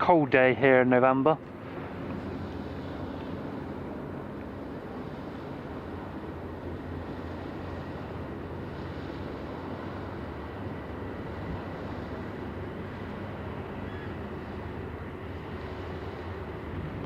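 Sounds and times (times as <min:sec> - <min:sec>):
ship engines rumbling: 0:00.0 - 0:17.0.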